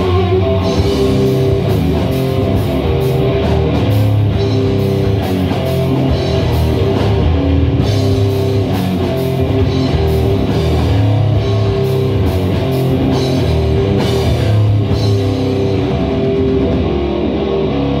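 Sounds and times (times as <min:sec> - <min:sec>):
electric guitars playing chords: 0:00.0 - 0:18.0
steady drumming: 0:00.0 - 0:18.0.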